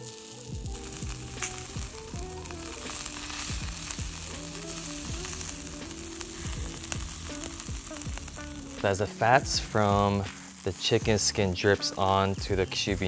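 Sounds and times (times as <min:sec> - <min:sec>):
background music with soft beat: 0:00.0 - 0:13.0
fat crackling on hot coals: 0:00.0 - 0:13.0
skewers sizzling over charcoal: 0:00.0 - 0:13.0.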